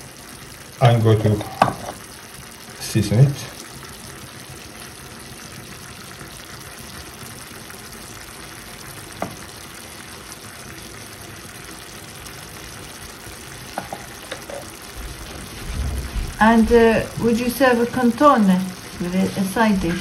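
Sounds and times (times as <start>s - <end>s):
food sizzling and bubbling: 0.0s - 20.0s.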